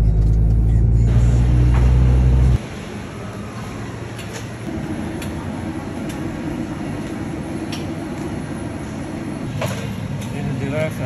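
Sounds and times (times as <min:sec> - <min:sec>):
low rumble of moving vehicle: 0:00.0 - 0:11.0.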